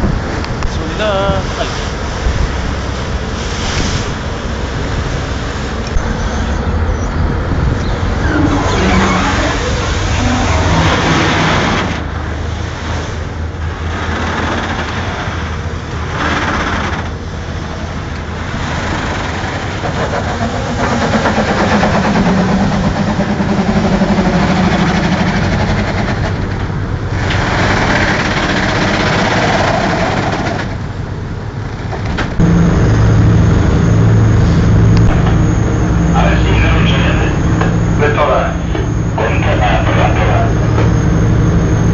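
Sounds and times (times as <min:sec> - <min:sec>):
rushing noise: 0:00.0 - 0:30.7, 0:32.2 - 0:41.9
diesel engine humming: 0:00.0 - 0:41.9.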